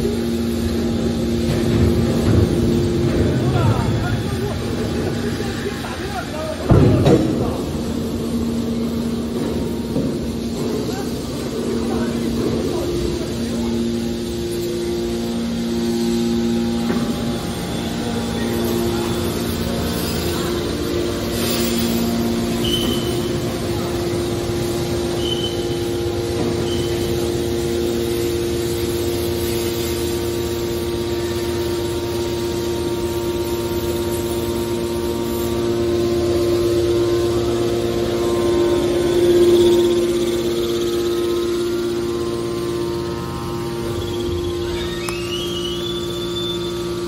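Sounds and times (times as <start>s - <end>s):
hydraulic pump motor hum and whine: 0.0s - 47.0s.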